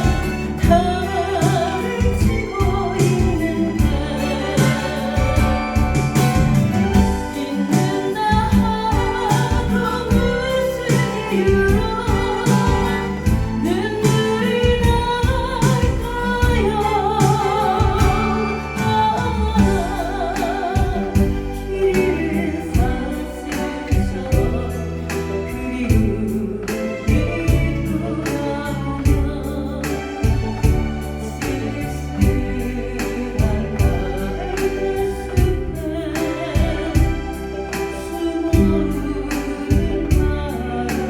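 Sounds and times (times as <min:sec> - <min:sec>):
band accompaniment with steady beat: 0:00.0 - 0:41.0
woman singing with vibrato: 0:00.0 - 0:41.0.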